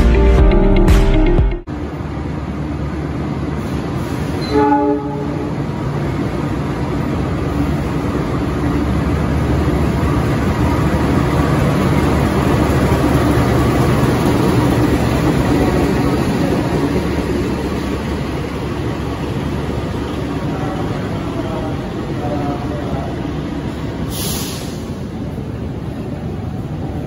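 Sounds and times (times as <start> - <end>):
diesel locomotive engine drone: 0.0 - 27.0
train running gear rumble: 1.7 - 27.0.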